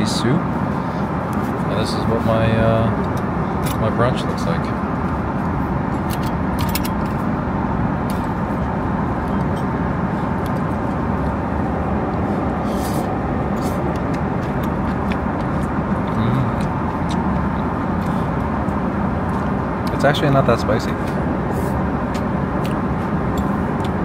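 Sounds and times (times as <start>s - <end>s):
airliner cabin air and engine noise: 0.0s - 24.0s.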